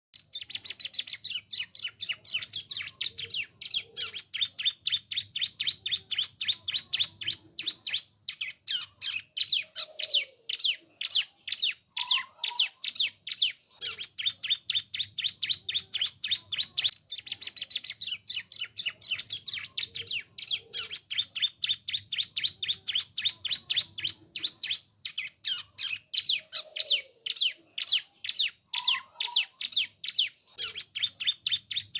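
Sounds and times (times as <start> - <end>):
bird singing high chirps: 0.2 - 31.9.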